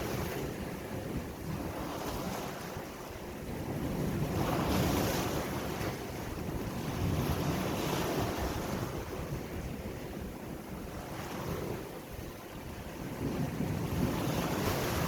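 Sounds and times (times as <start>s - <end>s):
ocean waves washing ashore: 0.0s - 15.0s
wind buffeting microphone: 0.0s - 15.0s.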